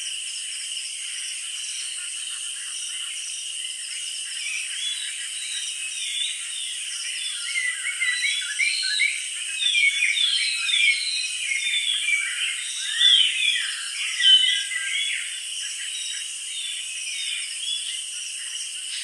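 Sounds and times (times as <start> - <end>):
small birds chirping: 1.0 - 19.0.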